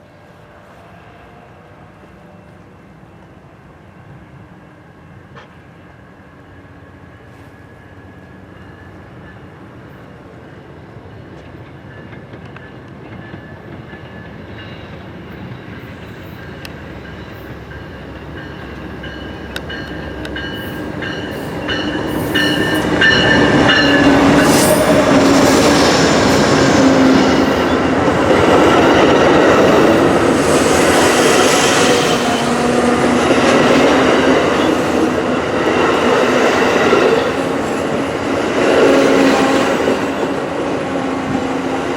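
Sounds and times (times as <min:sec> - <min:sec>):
train wheels rumbling on rails: 0:05.0 - 0:41.9.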